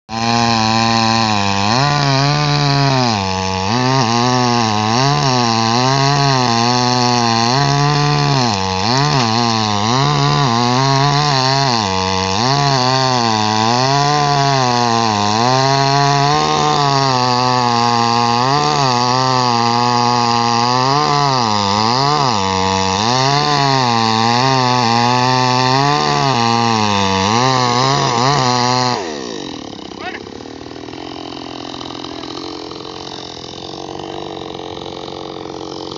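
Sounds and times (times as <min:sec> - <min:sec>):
chainsaw cutting wood: 0:00.1 - 0:35.9.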